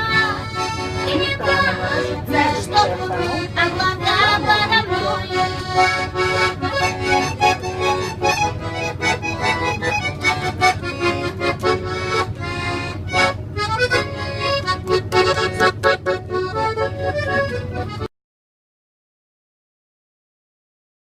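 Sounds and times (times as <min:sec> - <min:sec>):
instrumental music: 0:00.0 - 0:18.1.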